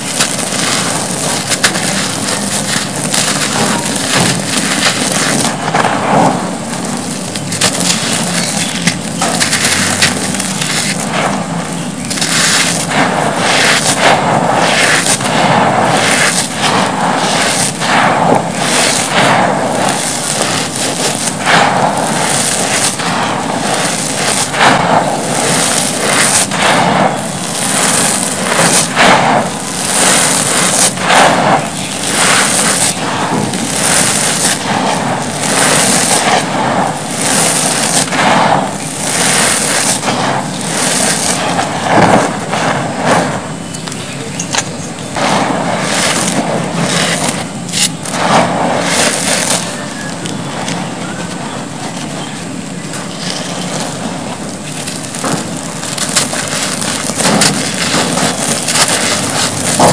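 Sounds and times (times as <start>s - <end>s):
hands crunching gritty cement dust: 0.0s - 59.9s.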